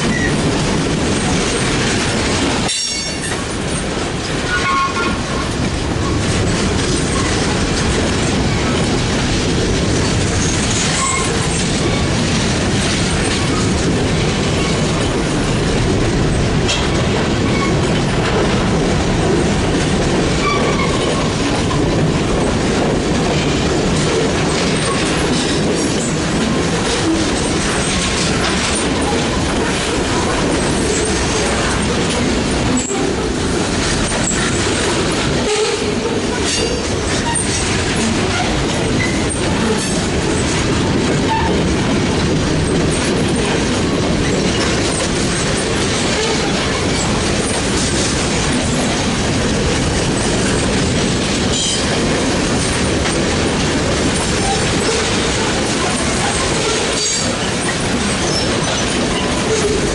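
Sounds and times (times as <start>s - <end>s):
train wheels rumbling on rail: 0.0s - 59.9s
wheels clicking over rail joints: 0.0s - 59.9s.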